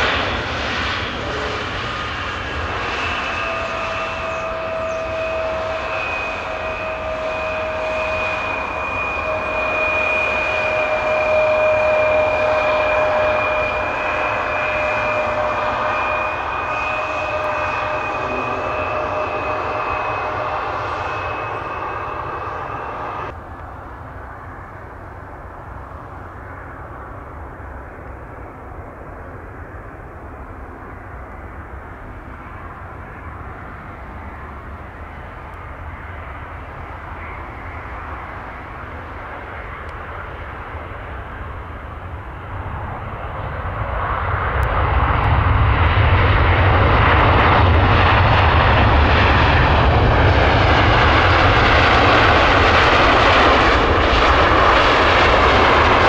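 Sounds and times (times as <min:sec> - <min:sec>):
airliner landing jet rumble: 0:00.0 - 0:56.0
jet turbofan whine: 0:00.0 - 0:56.0.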